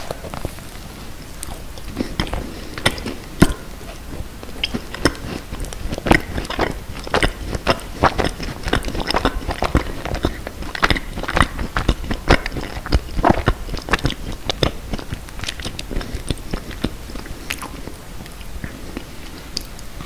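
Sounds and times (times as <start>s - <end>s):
crunching and chewing macaron: 0.0s - 20.0s.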